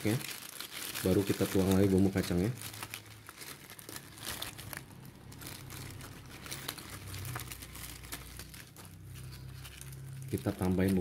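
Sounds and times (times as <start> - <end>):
food wrapping crinkling: 0.0 - 11.0.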